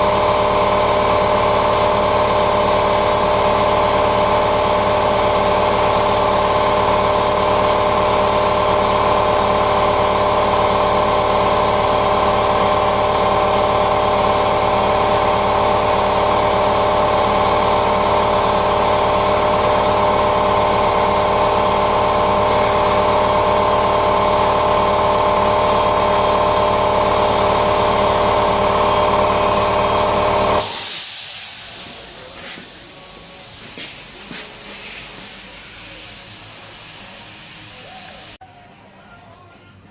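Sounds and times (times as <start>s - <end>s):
spray gun hissing: 0.0s - 38.4s.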